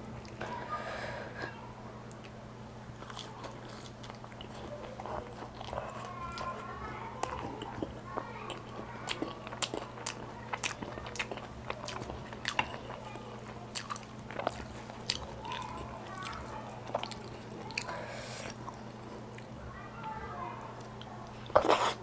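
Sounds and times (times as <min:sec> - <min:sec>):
steady low hum: 0:00.0 - 0:22.0
close-up chewing and crunching: 0:02.1 - 0:22.0.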